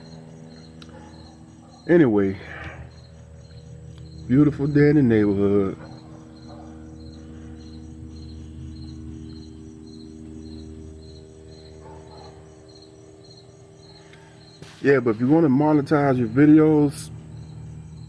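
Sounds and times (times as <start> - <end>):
cricket chirping: 0.0 - 18.0
steady low hum: 0.0 - 18.0.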